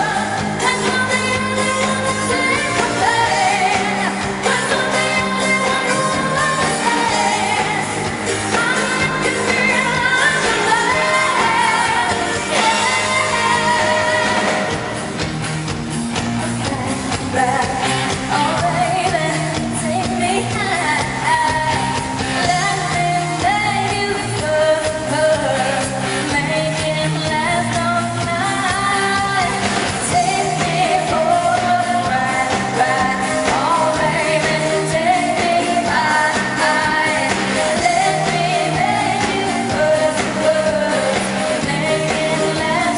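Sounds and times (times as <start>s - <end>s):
woman singing: 0.0s - 15.1s, 16.4s - 42.9s
loud band playing: 0.0s - 42.9s.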